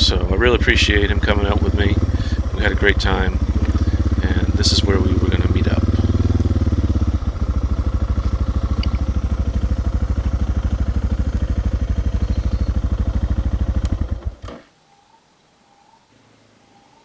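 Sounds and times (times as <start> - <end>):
motorcycle engine idling: 0.0 - 14.4.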